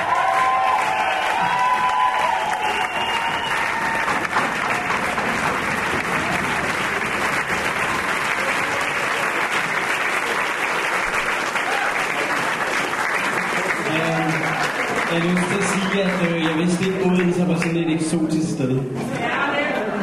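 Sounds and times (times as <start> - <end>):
audience applauding: 0.0 - 18.3.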